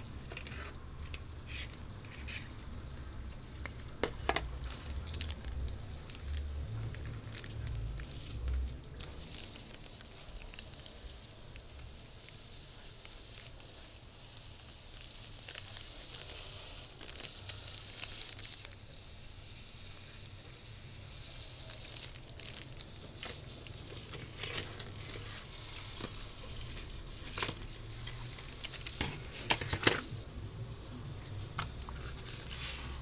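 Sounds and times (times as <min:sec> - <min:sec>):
plastic bags rustling: 0:00.0 - 0:19.0, 0:21.6 - 0:33.0.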